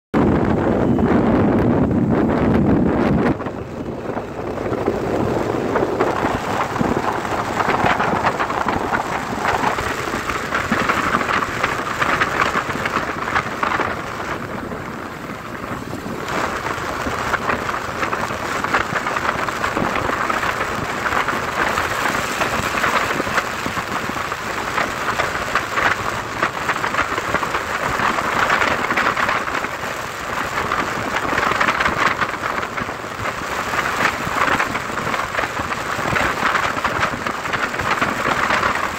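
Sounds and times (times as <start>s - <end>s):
wind noise on microphone: 0.1s - 38.9s
rain noise: 0.2s - 38.9s.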